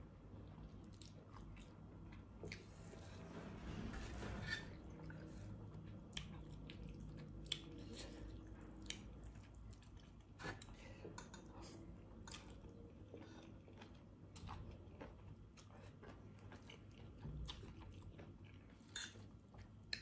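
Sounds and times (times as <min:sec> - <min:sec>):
person chewing noodles: 0:00.4 - 0:03.2, 0:04.8 - 0:20.0.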